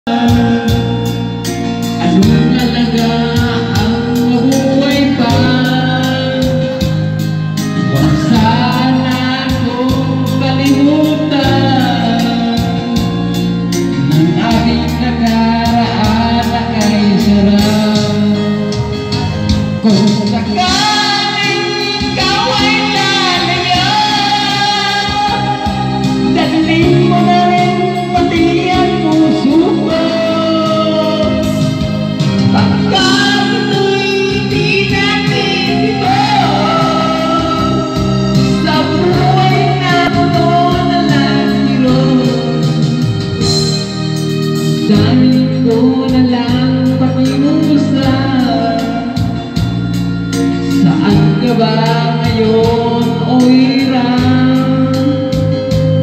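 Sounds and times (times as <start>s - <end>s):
karaoke backing track: 0.0s - 56.0s
person singing into microphone: 0.0s - 56.0s.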